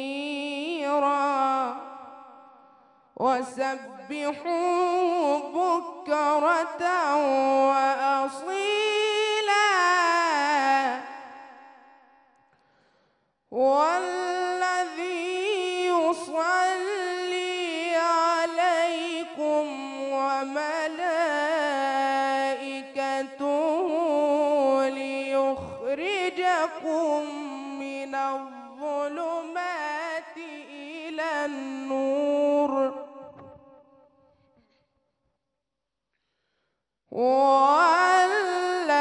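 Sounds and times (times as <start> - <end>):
man reciting melodically: 0.0 - 2.4, 3.2 - 11.8, 13.5 - 33.9, 37.1 - 39.0.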